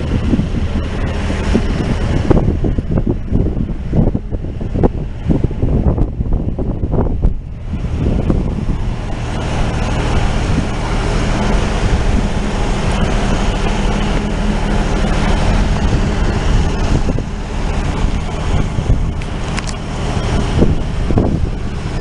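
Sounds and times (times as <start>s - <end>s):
train rumbling: 0.0s - 22.0s
wind buffeting microphone: 0.0s - 22.0s.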